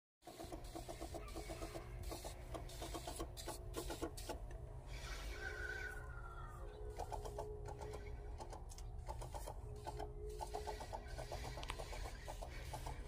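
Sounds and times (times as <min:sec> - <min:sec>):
sprayer pump rhythmic ticking: 0:00.2 - 0:05.1, 0:06.9 - 0:13.0.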